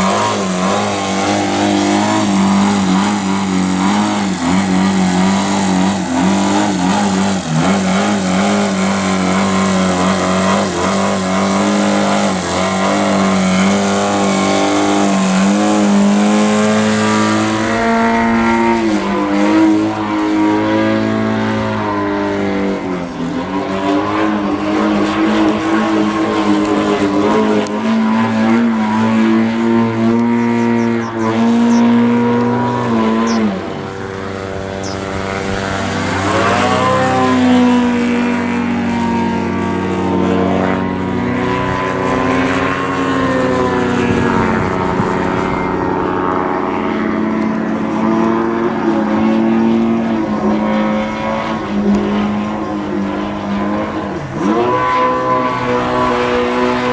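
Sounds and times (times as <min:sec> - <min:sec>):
model aircraft engine running: 0:00.0 - 0:56.9.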